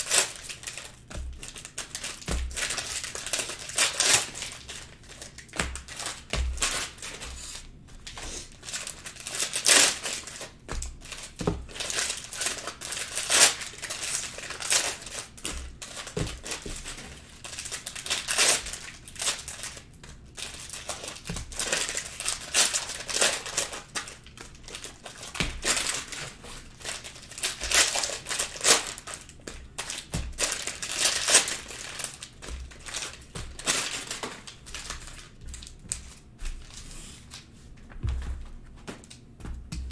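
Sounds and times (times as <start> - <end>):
foil wrappers crinkling and tearing: 0.0 - 37.5.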